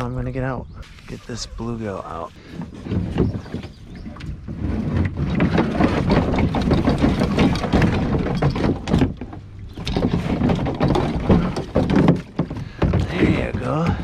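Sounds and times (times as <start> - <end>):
hands and gear rustling and knocking: 2.1 - 14.0.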